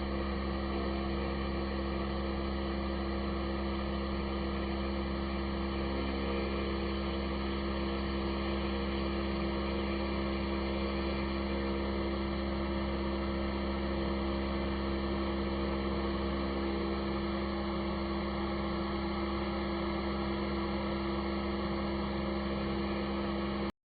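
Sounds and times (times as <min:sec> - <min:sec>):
router spindle humming: 0:00.0 - 0:23.7.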